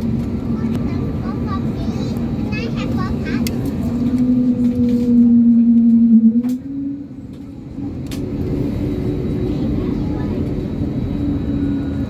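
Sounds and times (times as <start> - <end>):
jet engine moaning hum: 0.0 - 12.0.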